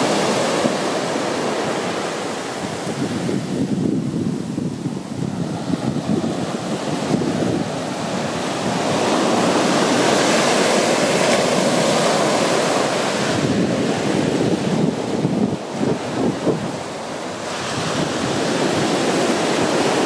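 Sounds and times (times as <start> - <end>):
waves breaking on sandy beach: 0.0 - 20.0
wind buffeting microphone: 0.0 - 20.0.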